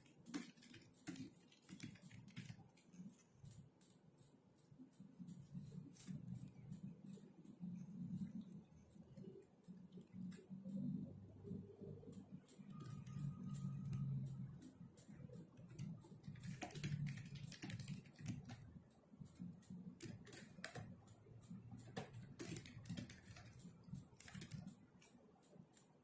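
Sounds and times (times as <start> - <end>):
keyboard typing clicks: 0.0 - 4.0, 5.0 - 26.0.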